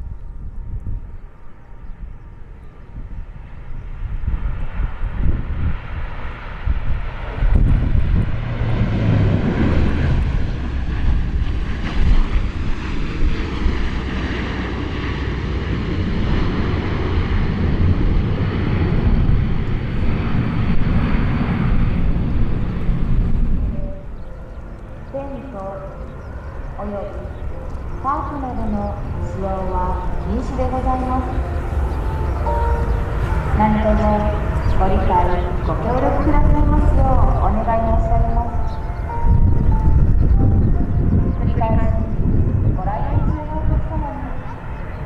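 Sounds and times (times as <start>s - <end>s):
airliner engine roar: 0.0s - 45.0s
wind rumbling on microphone: 0.0s - 45.0s.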